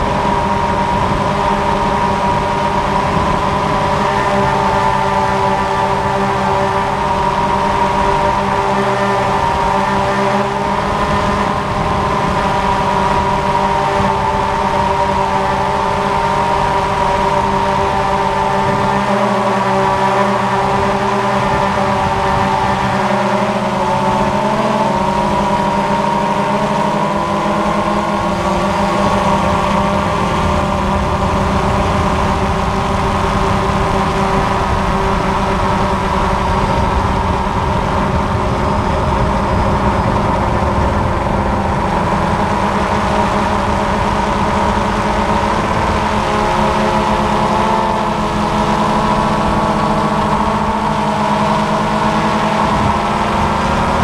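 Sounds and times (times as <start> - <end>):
drone motors buzzing: 0.0 - 54.0.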